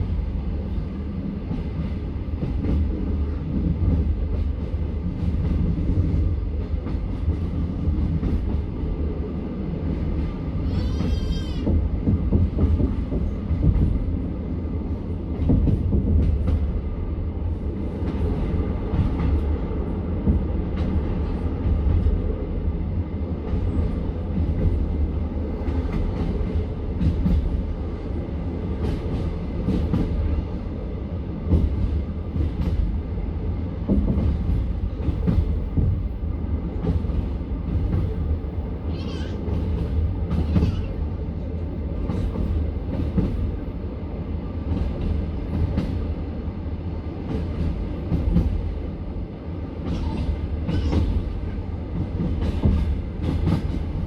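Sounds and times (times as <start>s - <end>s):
train carriage rumble: 0.0s - 54.0s.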